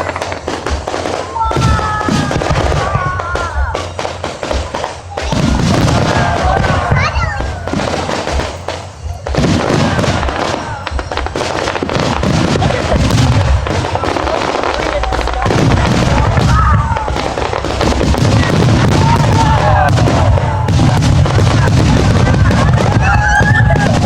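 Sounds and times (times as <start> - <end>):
fireworks crackling and popping: 0.0 - 24.0
low rumble of booms: 0.0 - 24.0.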